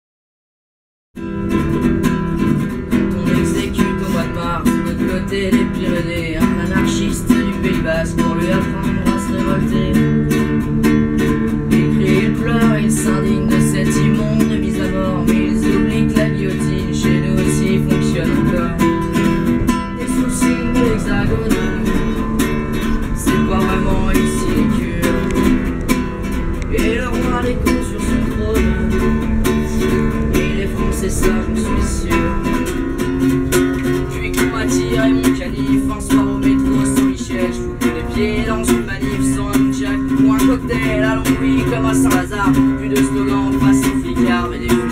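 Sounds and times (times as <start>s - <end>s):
acoustic guitar playing: 1.2s - 44.9s.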